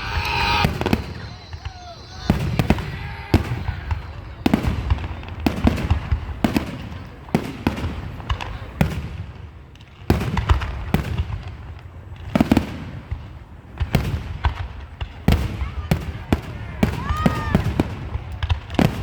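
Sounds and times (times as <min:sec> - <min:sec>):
fireworks booming with echo: 0:00.0 - 0:19.0.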